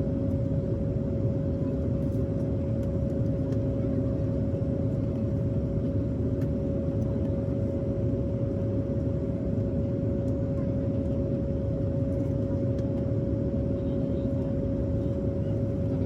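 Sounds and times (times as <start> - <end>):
jet cabin engine drone: 0.0 - 16.0.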